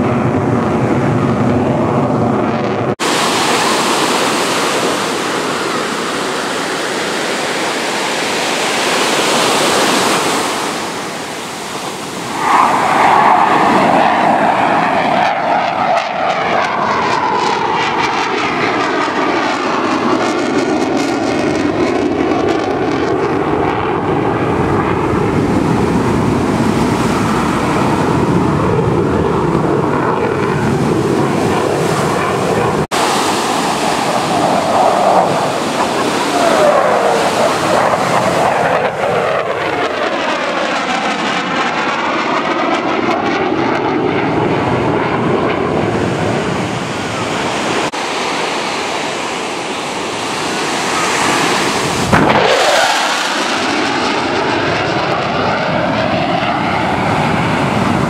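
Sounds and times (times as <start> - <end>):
jet engines roaring: 0.0 - 58.0
jet whine falling in pitch: 0.0 - 58.0.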